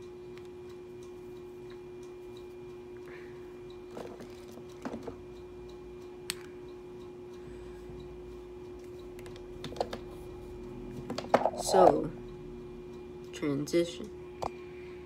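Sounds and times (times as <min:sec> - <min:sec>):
faint regular ticking: 0:00.0 - 0:03.9, 0:04.6 - 0:10.8, 0:11.6 - 0:14.6
steady hum: 0:00.0 - 0:15.0.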